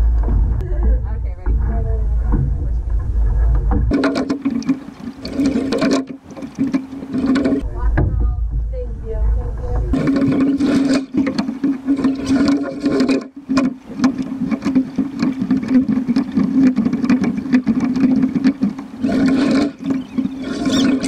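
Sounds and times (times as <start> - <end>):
sharp knocks and splashes: 0.0 - 8.7, 9.6 - 21.0
steady low hum: 0.0 - 21.0
water slapping against hull: 0.0 - 21.0.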